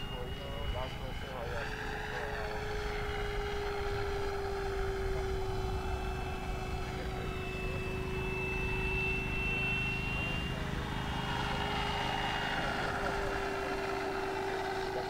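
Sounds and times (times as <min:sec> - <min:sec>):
model plane propeller whine: 0:00.0 - 0:15.0.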